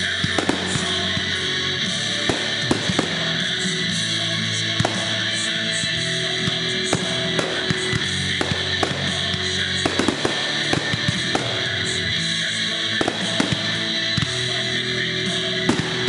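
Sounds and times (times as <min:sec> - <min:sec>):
fireworks bangs and crackles: 0:00.0 - 0:16.0
guitar music: 0:00.0 - 0:16.0.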